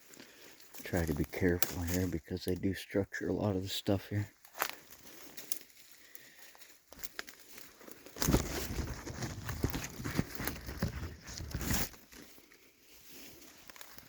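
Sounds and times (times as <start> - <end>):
footsteps on dry leaves and twigs: 0.0 - 14.0.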